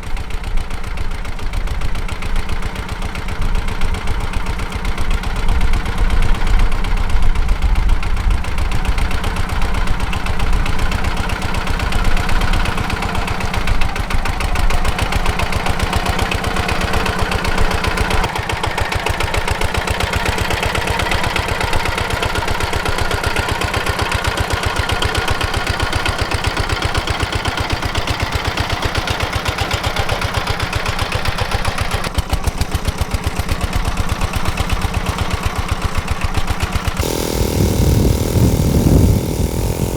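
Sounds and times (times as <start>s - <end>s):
tractor engine driving rotary tiller: 0.0s - 39.9s.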